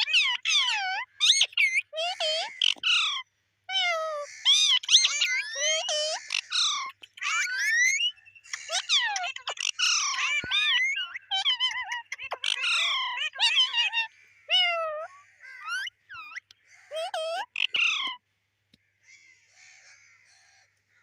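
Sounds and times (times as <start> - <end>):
parrot squawking and whistling: 0.0 - 18.2.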